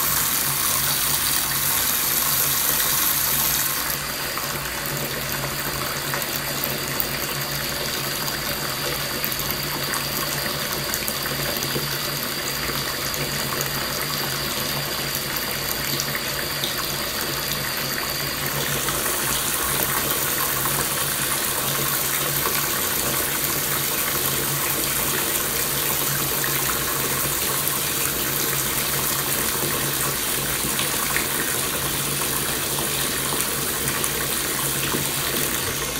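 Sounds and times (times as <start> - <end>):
water running into bathtub: 0.0 - 35.9.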